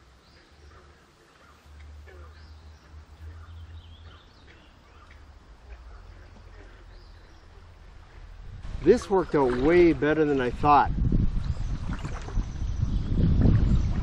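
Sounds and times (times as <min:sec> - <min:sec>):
birds chirping: 0:00.0 - 0:14.0
low steady rumble: 0:00.0 - 0:14.0.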